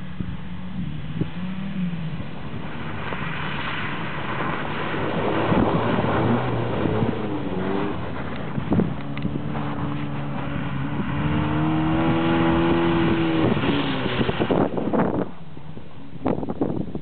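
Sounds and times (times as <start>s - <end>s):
snow spraying from tyres: 0.0s - 16.9s
car engine revving: 0.3s - 15.3s.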